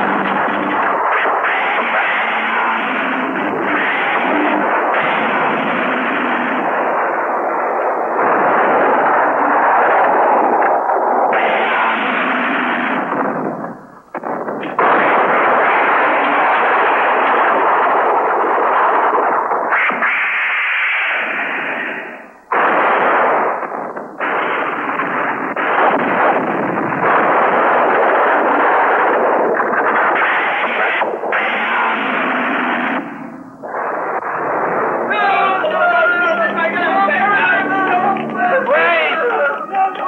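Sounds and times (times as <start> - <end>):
muffled explosions: 0.0 - 40.0.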